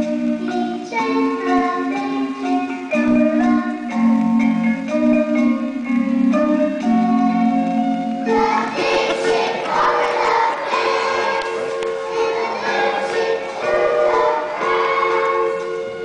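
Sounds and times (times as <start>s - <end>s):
children singing together: 0.0s - 4.2s, 6.8s - 15.8s
instrumental accompaniment: 0.0s - 16.0s.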